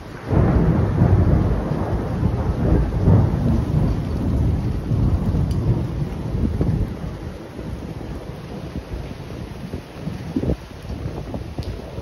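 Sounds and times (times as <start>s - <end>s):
rolling thunder: 0.0s - 12.0s.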